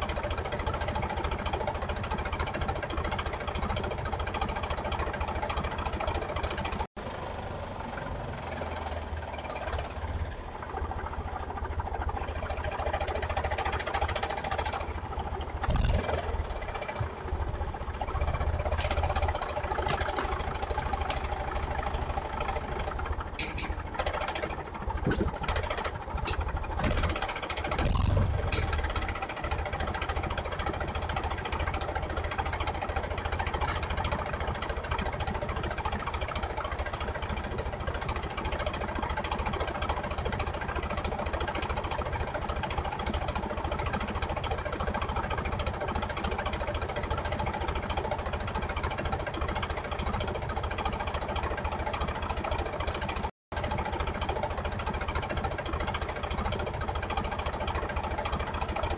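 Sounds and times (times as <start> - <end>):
engine idling with knocking: 0.0 - 58.9.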